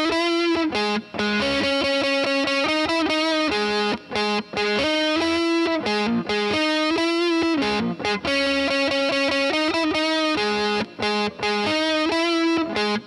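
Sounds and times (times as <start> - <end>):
distorted electric guitar riff: 0.0 - 13.0.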